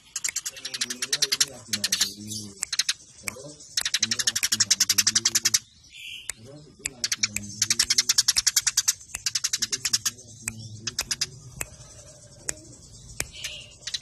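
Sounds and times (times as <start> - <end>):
sparrows chattering: 0.0 - 14.0.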